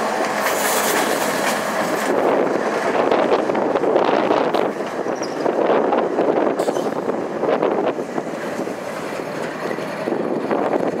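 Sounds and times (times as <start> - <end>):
locomotives rumbling past: 0.0 - 11.0.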